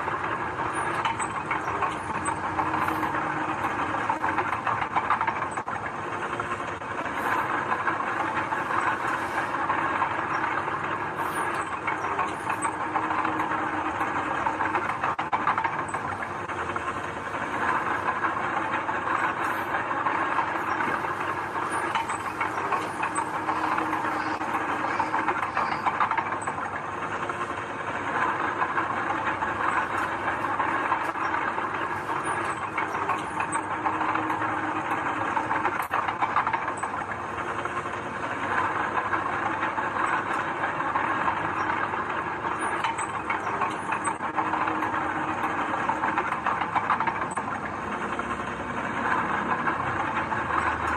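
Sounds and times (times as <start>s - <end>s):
diesel engine of heavy machinery: 0.0s - 50.9s
metallic clatter: 0.0s - 50.9s.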